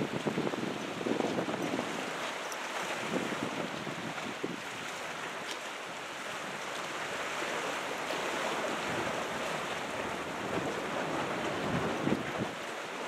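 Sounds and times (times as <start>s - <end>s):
ocean waves breaking: 0.0s - 13.0s.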